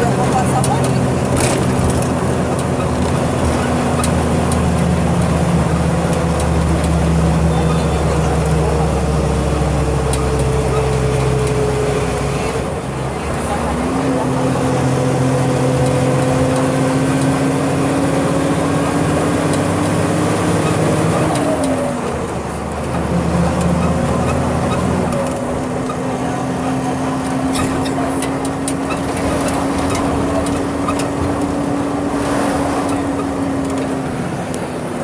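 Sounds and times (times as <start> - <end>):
bus diesel engine drone: 0.0 - 35.0.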